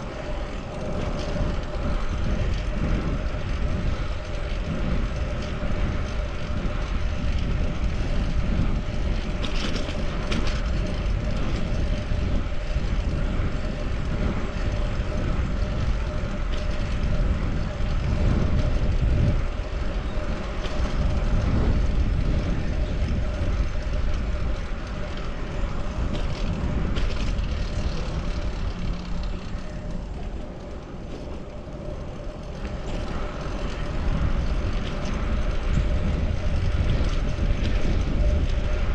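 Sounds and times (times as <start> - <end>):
bicycle road noise: 0.0 - 38.9
low rumble: 0.0 - 38.9
wind rush on microphone: 0.0 - 38.9.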